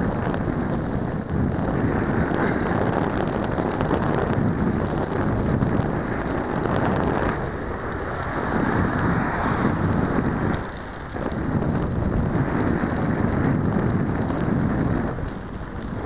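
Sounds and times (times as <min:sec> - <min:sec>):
vehicle driving rumble: 0:00.0 - 0:16.0
wind buffeting microphone: 0:00.0 - 0:16.0.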